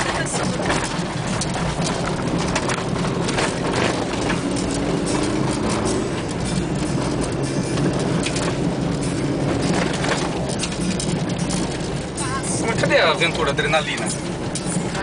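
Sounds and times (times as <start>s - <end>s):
car engine droning: 0.0s - 15.0s
vehicle body rattling: 0.0s - 15.0s.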